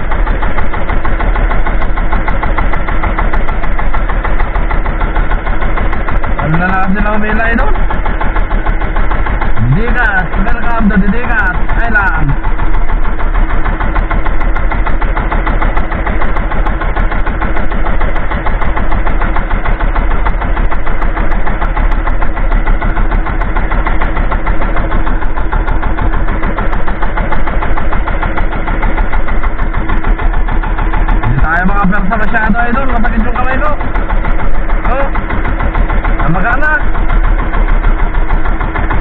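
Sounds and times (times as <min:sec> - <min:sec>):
boat engine chugging: 0:00.0 - 0:39.0.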